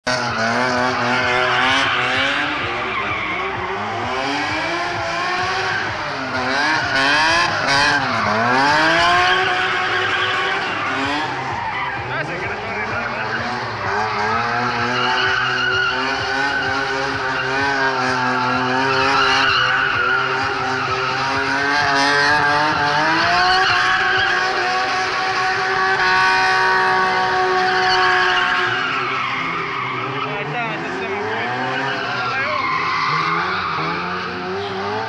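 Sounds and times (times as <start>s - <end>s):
car engine revving hard: 0.0s - 35.0s
tyres spinning and skidding: 0.0s - 35.0s.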